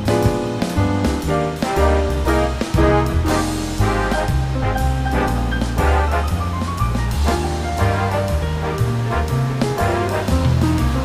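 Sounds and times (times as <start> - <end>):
held bass line: 0.0 - 11.0
steady drum beat: 0.0 - 11.0.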